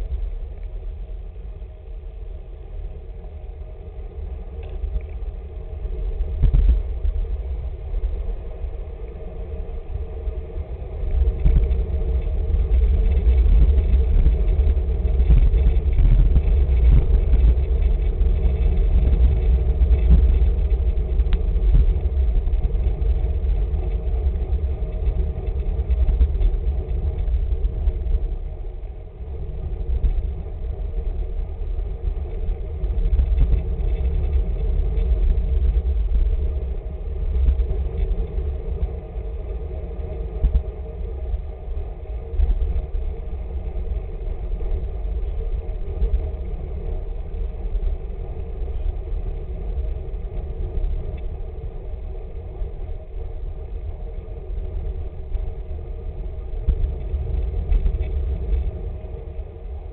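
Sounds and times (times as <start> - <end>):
tyres humming on road: 0.0 - 59.9
wind buffeting microphone: 0.0 - 59.9.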